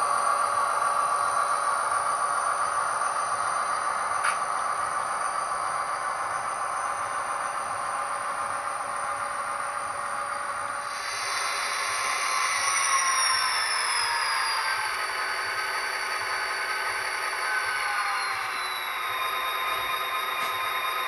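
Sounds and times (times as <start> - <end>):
model locomotive motor whine: 0.0 - 21.0.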